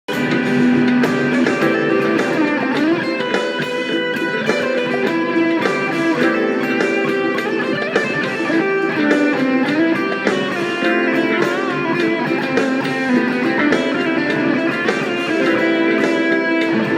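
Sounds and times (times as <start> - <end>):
fuzz electric guitar lead lines: 0.1 - 16.9.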